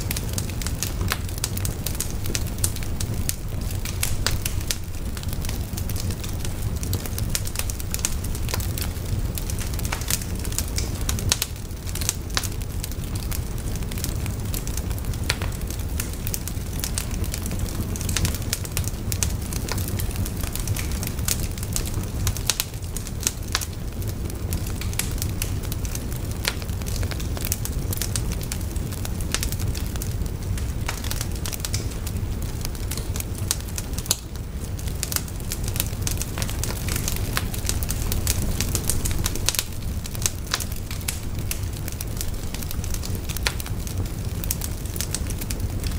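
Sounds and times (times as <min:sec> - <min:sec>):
bonfire crackling and popping: 0:00.0 - 0:45.9.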